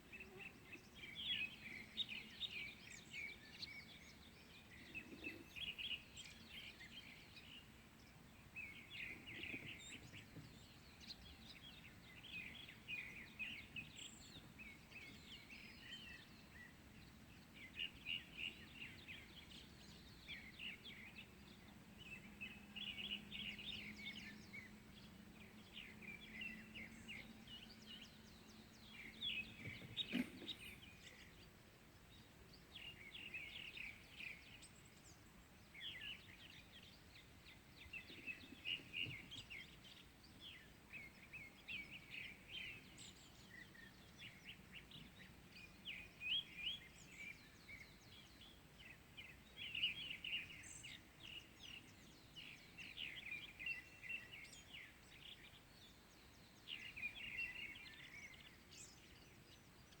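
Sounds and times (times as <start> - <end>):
small birds chirping: 0.0 - 60.0.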